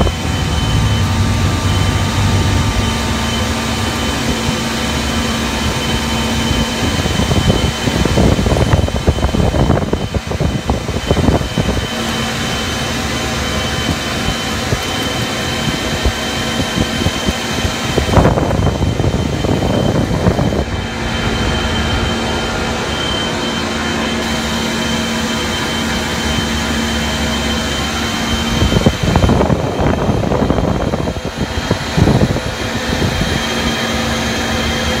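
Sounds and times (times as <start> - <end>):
jet engines roaring: 0.0 - 35.0
low hum: 0.0 - 35.0
rushing air: 0.0 - 35.0
thin high whine: 0.0 - 35.0.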